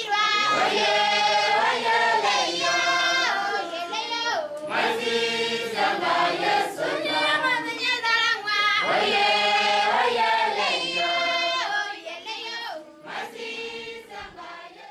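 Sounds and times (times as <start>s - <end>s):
choir singing long notes: 0.0s - 7.8s, 8.4s - 14.9s.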